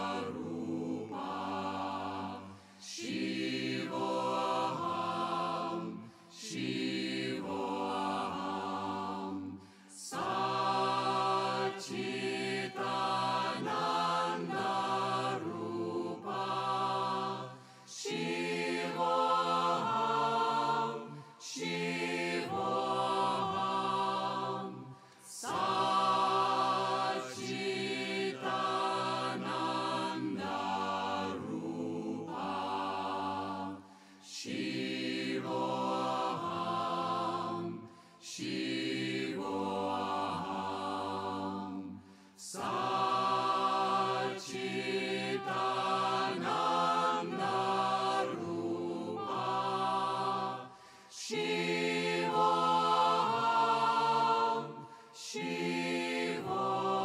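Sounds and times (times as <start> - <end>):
choir singing chant-like song: 0.0 - 57.0.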